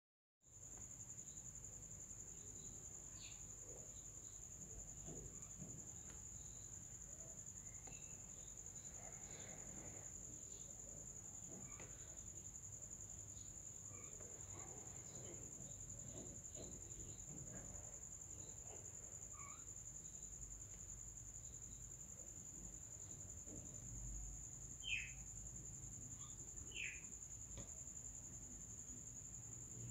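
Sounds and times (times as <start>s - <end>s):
high-pitched insect trill: 0.6s - 29.9s.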